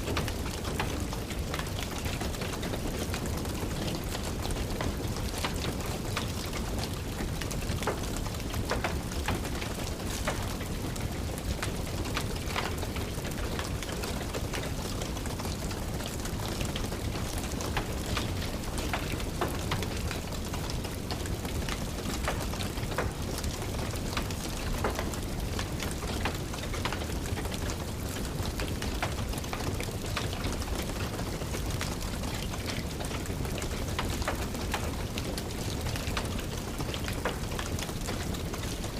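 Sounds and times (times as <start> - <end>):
steady rain falling: 0.0 - 38.9
wood fire crackling: 0.0 - 38.9.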